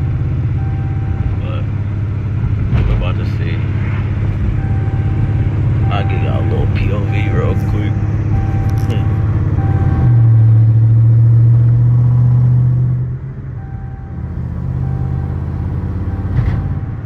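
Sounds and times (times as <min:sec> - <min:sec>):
car engine and exhaust droning: 0:00.0 - 0:17.0.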